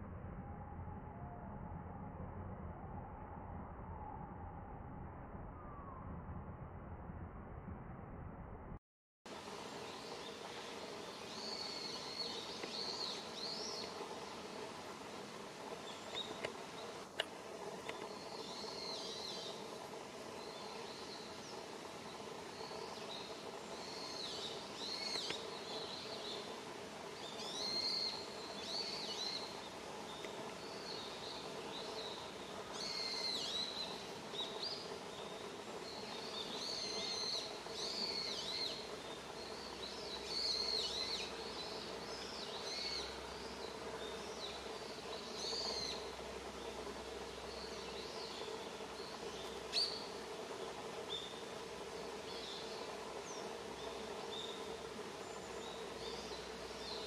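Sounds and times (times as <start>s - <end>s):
low background noise: 9.3s - 57.0s.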